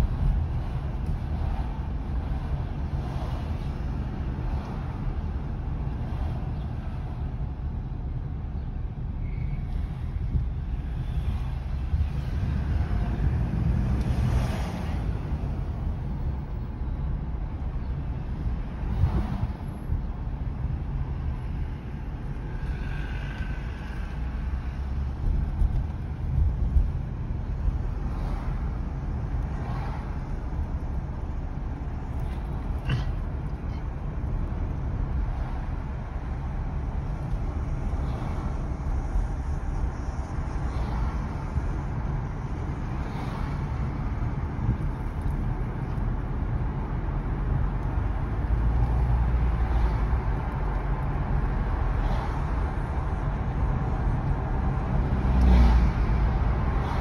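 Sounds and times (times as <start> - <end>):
car driving slowly in traffic: 0.0 - 57.0.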